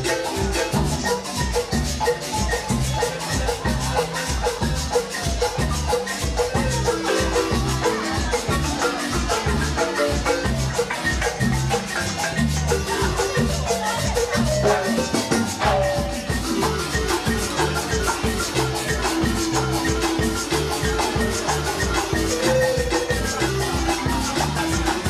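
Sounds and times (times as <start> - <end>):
bass line: 0.0 - 25.0
marimba ensemble playing: 0.0 - 25.0
shaker: 0.0 - 25.0.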